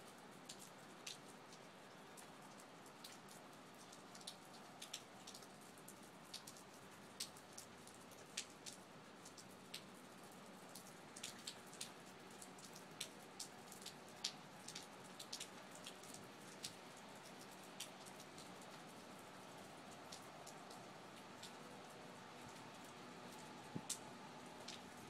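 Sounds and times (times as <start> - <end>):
rain hiss: 0.0 - 25.0.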